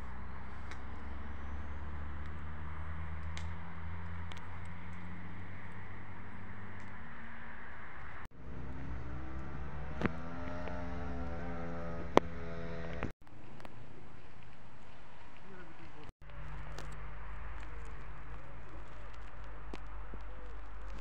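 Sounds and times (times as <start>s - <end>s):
engine running: 0.0s - 13.2s, 15.6s - 21.0s.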